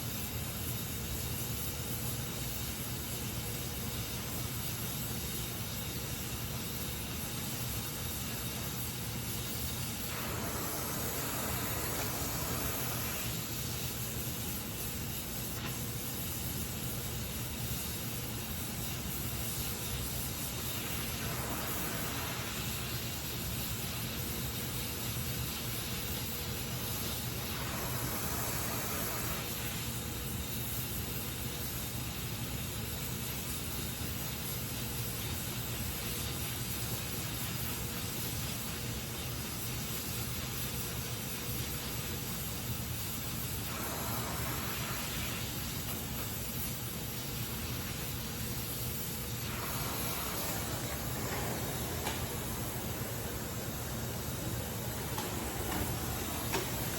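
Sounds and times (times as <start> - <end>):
welding torch flame hissing: 0.0 - 56.9.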